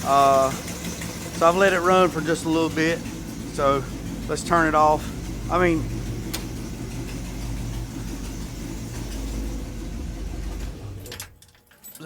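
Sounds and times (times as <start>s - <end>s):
car engine idling: 0.0s - 11.4s
engine clicks after shutoff: 0.0s - 11.6s.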